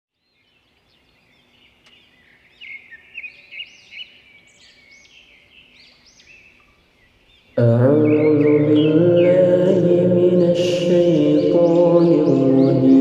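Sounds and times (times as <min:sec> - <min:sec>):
birds chirping and singing: 0:00.2 - 0:13.0.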